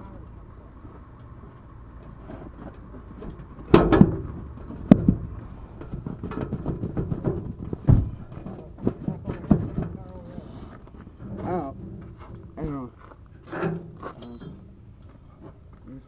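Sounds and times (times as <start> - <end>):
irregular knocks and clunks: 2.4 - 15.9.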